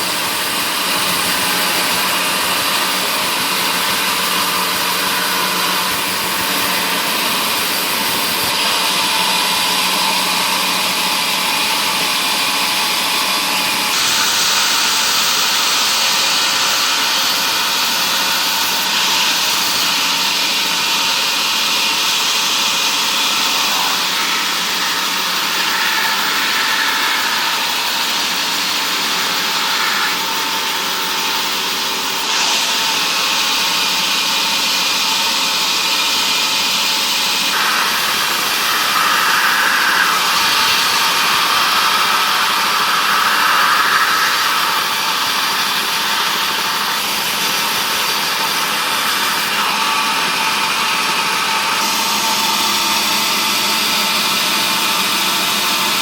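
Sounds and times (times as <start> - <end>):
high-pitched whir of saws: 0.0 - 56.0.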